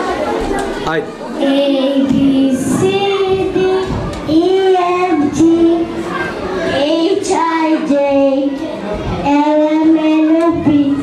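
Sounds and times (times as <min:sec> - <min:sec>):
children singing: 0:01.4 - 0:11.0.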